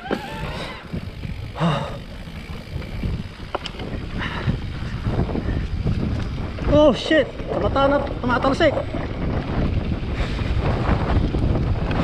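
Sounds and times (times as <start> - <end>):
bike knocking and rattling: 0.0 - 12.0
wind rumble on microphone: 0.0 - 12.0.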